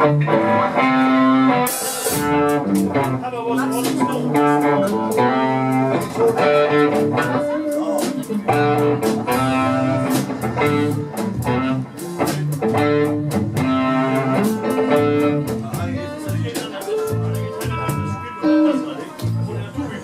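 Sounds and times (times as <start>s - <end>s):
electric guitar: 0.0s - 20.0s
live band playing: 0.0s - 20.0s.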